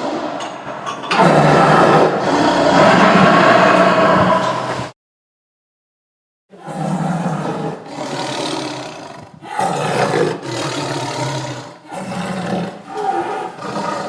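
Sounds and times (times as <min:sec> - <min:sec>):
tiger roaring: 0:00.0 - 0:05.0, 0:06.5 - 0:14.0.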